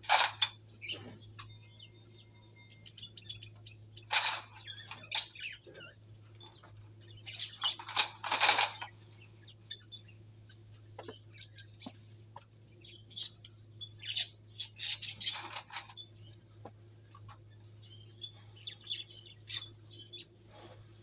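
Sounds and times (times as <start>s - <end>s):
faint low hum: 0.0s - 21.0s
small birds chirping: 0.0s - 21.0s.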